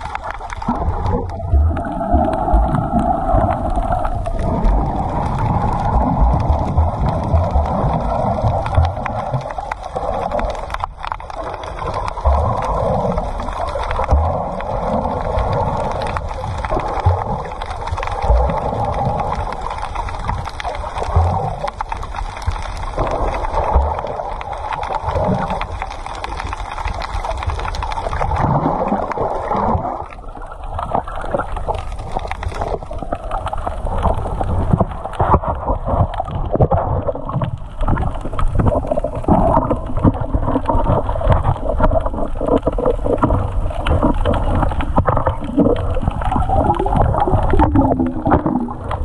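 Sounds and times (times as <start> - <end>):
crackling and small knocks: 0.0 - 49.0
muffled underwater gurgling: 0.0 - 49.0.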